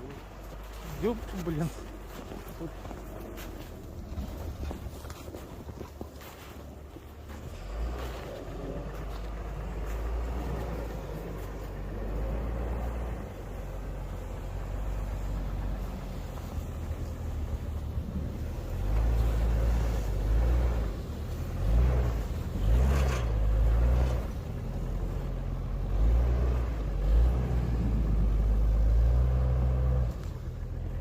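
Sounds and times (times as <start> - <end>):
suv engine revving: 0.0 - 31.0.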